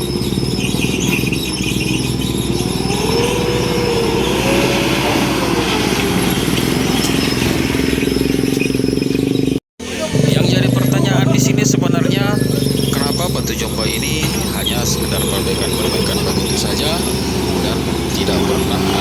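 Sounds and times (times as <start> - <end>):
diesel engine running hard: 0.0 - 19.0
wavering whine: 0.0 - 19.0.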